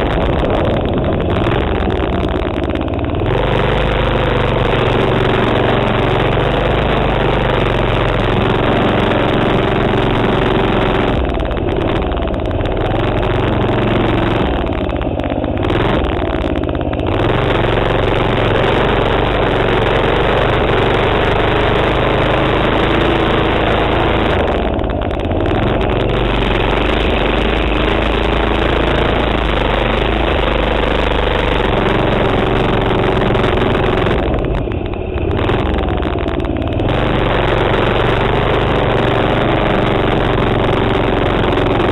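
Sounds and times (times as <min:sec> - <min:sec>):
minibike engine running: 0:00.0 - 0:41.9.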